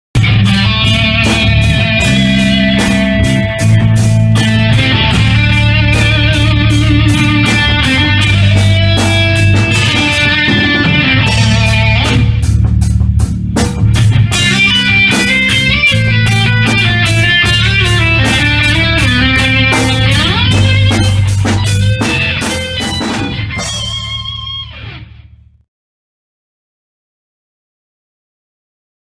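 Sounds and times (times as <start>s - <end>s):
bass line: 0.1s - 25.6s
drum hits: 0.2s - 25.0s
electric guitar riffing: 0.2s - 25.6s.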